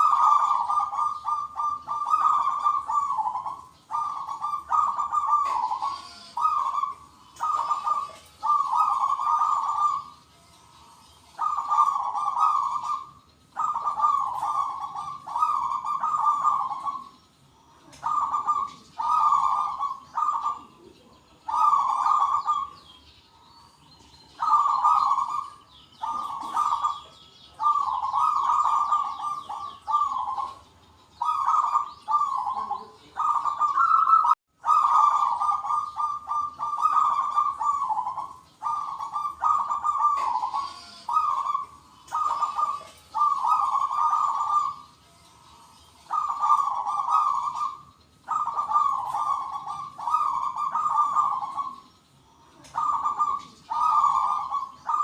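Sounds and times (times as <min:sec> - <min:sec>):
doves cooing: 0:00.0 - 0:55.0
high chirping: 0:00.0 - 0:55.0.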